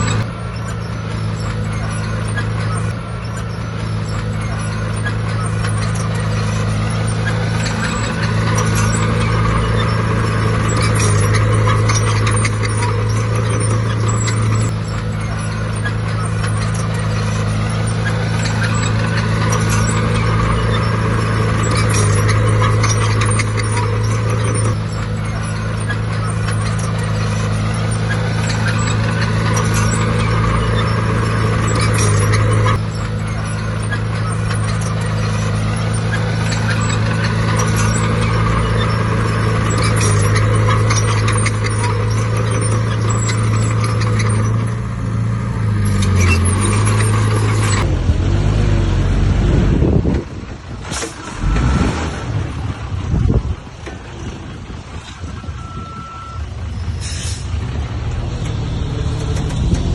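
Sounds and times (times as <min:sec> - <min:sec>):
diesel engine drone: 0:00.0 - 0:59.9
machinery rattling and clanking: 0:00.0 - 0:59.9.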